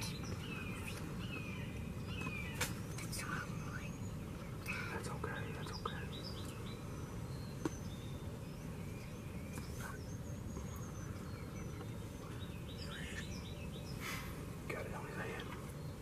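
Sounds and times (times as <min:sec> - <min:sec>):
faint songbirds chirping: 0:00.0 - 0:16.0
low background rumble: 0:00.0 - 0:16.0.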